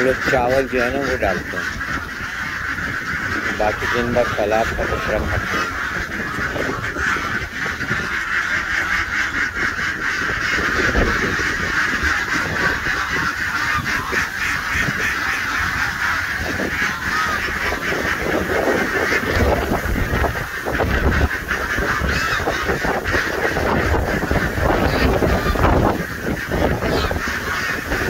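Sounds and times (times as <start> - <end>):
waterfowl honking: 0.0 - 28.0.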